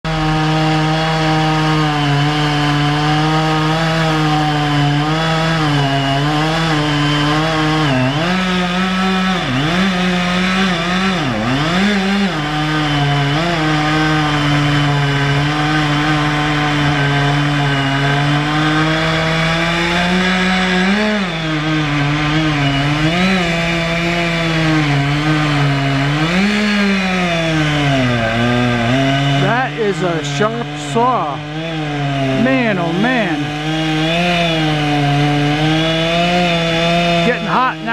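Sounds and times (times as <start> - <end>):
chainsaw cutting log: 0.0 - 37.9.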